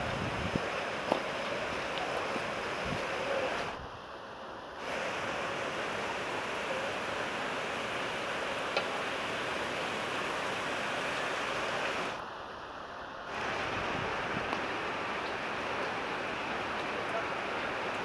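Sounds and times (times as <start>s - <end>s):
water rushing through channels: 0.0s - 18.0s.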